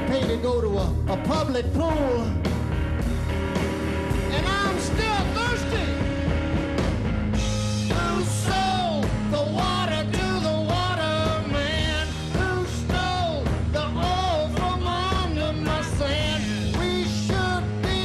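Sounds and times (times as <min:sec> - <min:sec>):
electric guitar lead line: 0:00.0 - 0:18.0
rockabilly band playing: 0:00.0 - 0:18.0.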